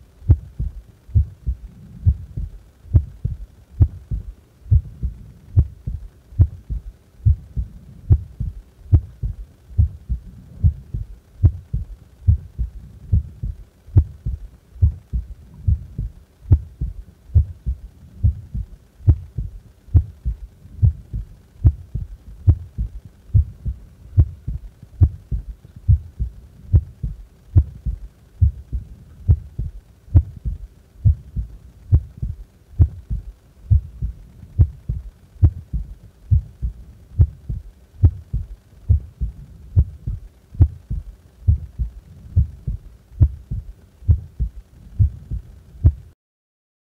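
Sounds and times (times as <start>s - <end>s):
heart beating: 0.3s - 46.2s.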